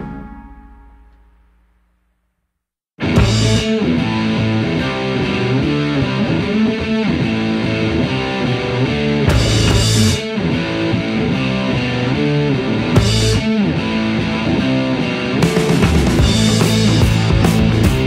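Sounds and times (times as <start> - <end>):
rock music with electric guitar: 3.0 - 18.0.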